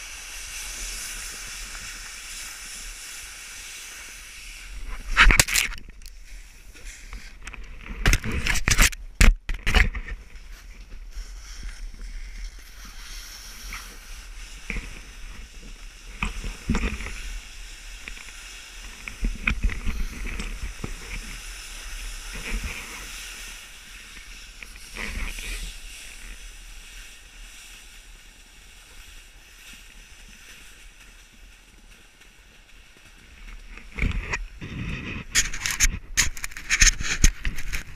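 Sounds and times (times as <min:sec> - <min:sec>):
snowboard scraping over snow: 0:00.0 - 0:05.4, 0:06.1 - 0:08.8, 0:09.7 - 0:37.9.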